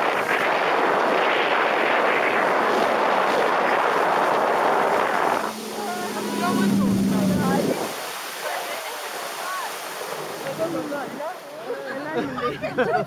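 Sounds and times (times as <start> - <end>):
wind buffeting microphone: 0.0 - 11.4
wind and water rushing: 0.0 - 13.0.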